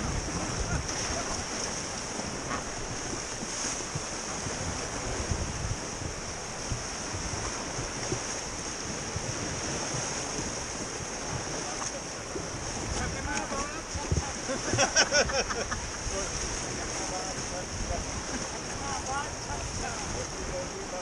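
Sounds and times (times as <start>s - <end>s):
whitewater rapids rushing: 0.0s - 21.0s
wind buffeting microphone: 0.0s - 21.0s.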